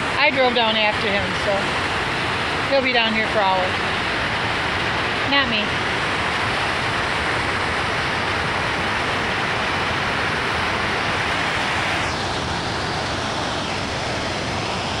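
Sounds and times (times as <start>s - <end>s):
water rushing over a dam: 0.0s - 15.0s.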